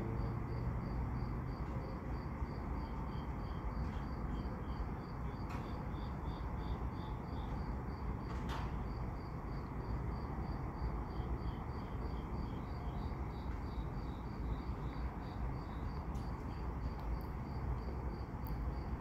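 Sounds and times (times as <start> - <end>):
crickets chirping: 0.0 - 19.0
lower-pitched cricket chirping: 0.0 - 19.0.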